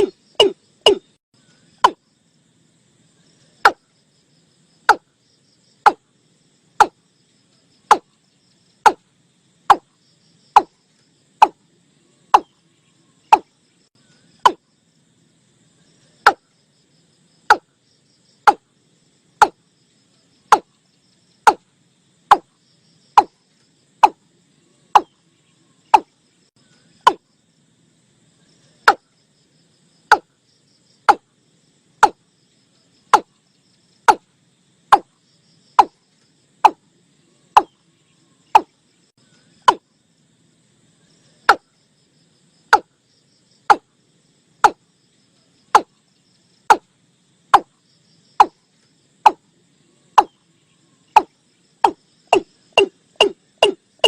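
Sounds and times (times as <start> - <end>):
faint insect chirring: 0.0 - 54.0.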